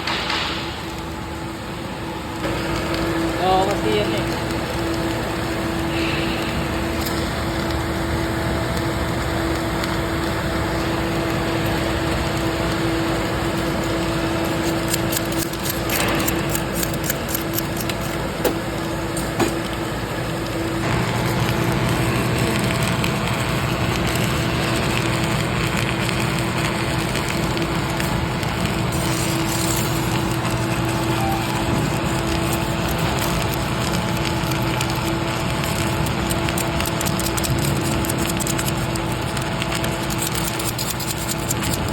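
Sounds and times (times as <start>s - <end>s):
constant hum: 0.0s - 41.9s
welding crackling: 0.1s - 41.9s.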